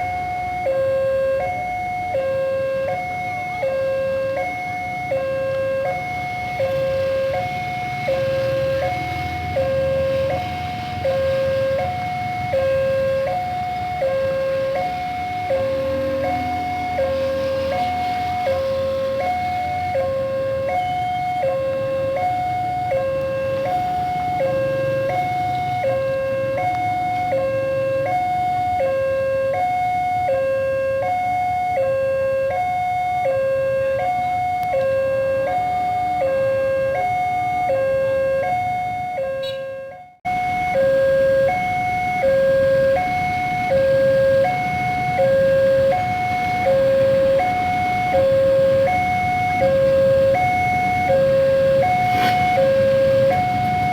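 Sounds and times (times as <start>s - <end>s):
level crossing two-tone alarm: 0.0s - 53.9s.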